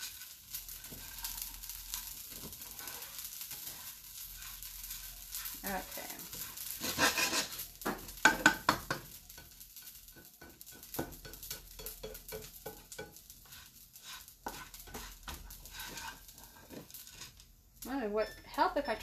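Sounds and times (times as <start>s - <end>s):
light sizzle: 0.0s - 19.0s
metal tongs scraping a skillet: 0.0s - 19.0s.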